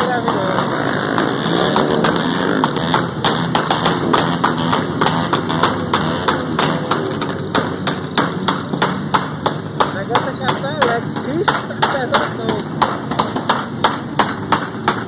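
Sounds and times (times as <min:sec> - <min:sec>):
motorcycle engines running: 0:00.0 - 0:15.0
rapid sharp taps: 0:00.0 - 0:15.0.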